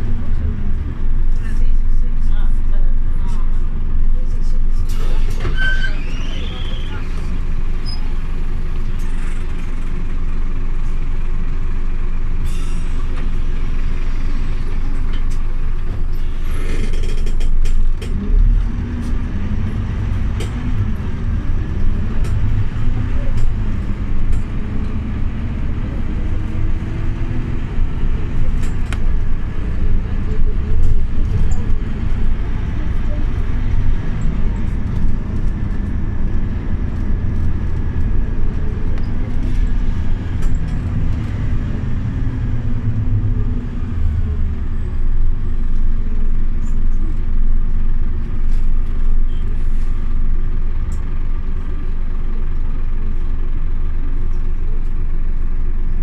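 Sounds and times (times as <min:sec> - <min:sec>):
bus diesel engine hum: 0:00.0 - 0:56.0
low road rumble: 0:00.0 - 0:56.0.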